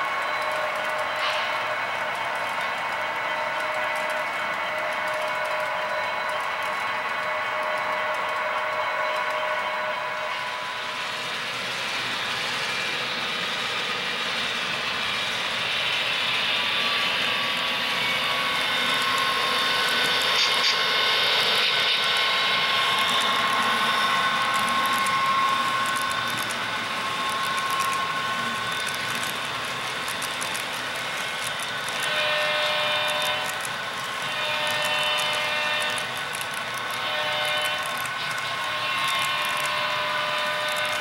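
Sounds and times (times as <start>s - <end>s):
model locomotive engine drone: 0.0s - 41.0s.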